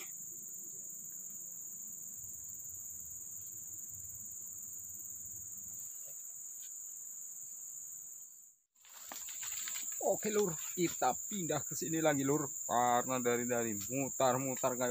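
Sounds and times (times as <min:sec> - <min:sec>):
insects droning: 0:00.0 - 0:14.9.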